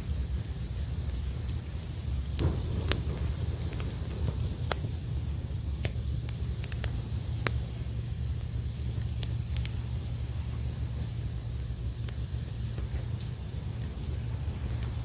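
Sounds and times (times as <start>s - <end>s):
campfire crackling: 0.0s - 15.0s
low rumble of surf: 0.0s - 15.0s.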